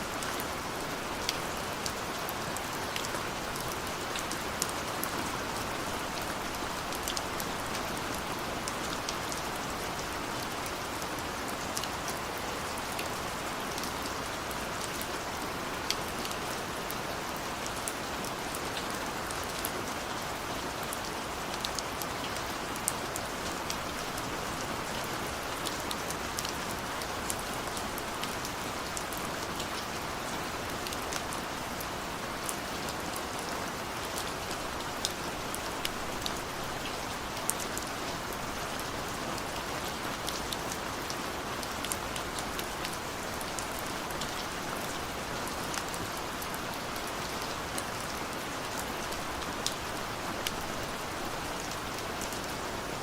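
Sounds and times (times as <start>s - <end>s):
rain hissing on a window: 0.0s - 53.0s.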